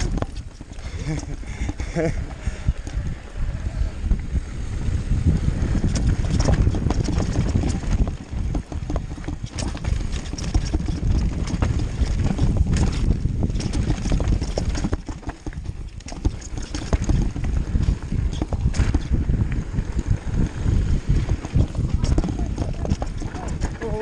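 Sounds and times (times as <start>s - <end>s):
bike rattling and knocking: 0.0s - 3.1s, 4.1s - 24.0s
bike tyres rumbling on dirt: 0.0s - 24.0s.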